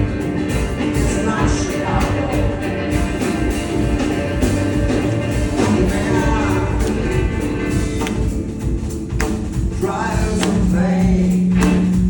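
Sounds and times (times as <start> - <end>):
live rock band music: 0.0 - 12.0.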